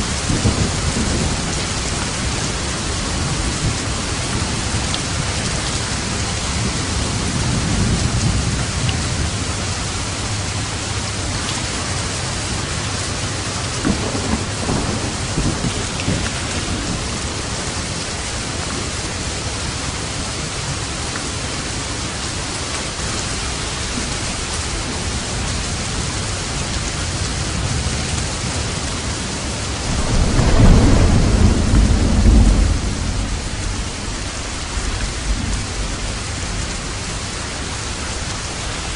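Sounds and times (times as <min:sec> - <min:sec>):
thunder rumbling: 0:00.0 - 0:22.3, 0:22.9 - 0:38.9
heavy rain: 0:00.0 - 0:38.9.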